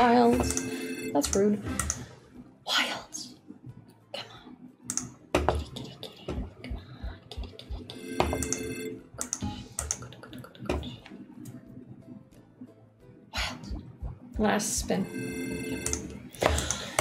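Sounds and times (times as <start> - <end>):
slot game background music: 0.0 - 10.1, 10.8 - 17.0.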